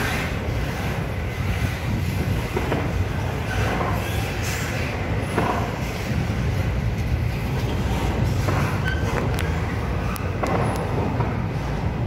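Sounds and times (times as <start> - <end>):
train cars rumbling past: 0.0 - 12.0.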